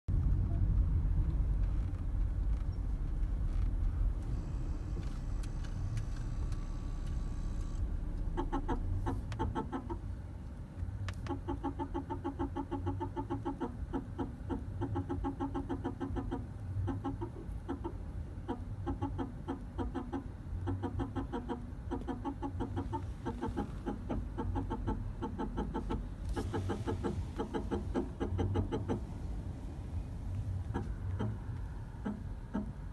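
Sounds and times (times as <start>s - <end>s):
low hum: 0.1s - 32.9s
brake system chattering: 1.3s - 32.9s.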